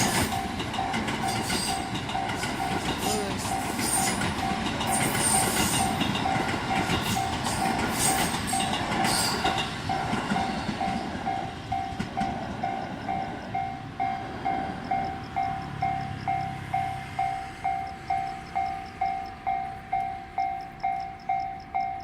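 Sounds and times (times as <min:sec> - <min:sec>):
electric train clattering past: 0:00.0 - 0:22.0
level-crossing warning bell: 0:00.0 - 0:22.0.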